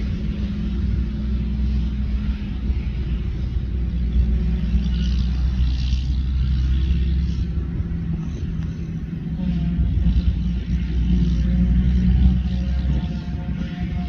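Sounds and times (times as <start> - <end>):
tractor running: 0.0 - 14.0.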